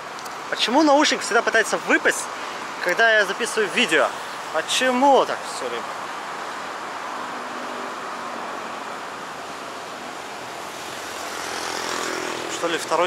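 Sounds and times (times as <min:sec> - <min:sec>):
road traffic hiss: 0:00.0 - 0:13.0.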